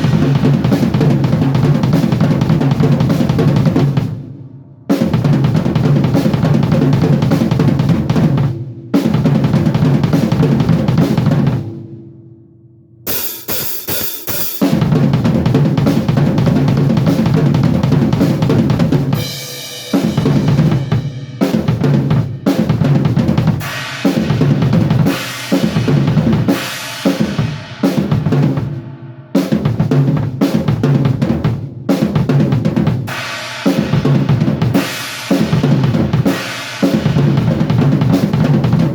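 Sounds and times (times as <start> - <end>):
drum kit fills: 0.0 - 12.0, 13.1 - 38.9.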